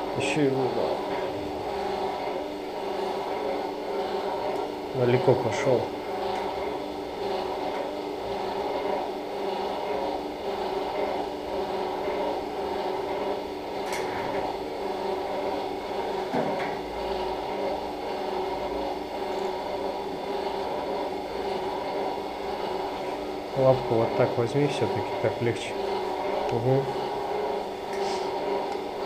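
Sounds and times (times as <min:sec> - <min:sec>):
operating room equipment humming: 0:00.0 - 0:29.0.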